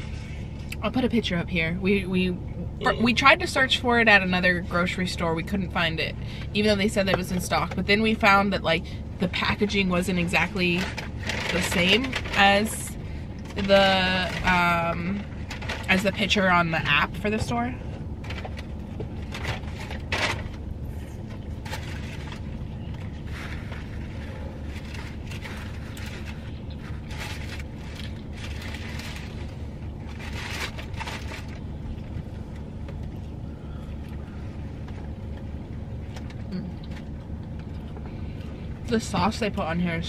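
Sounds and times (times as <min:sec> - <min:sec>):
low car hum: 0:00.0 - 0:40.0.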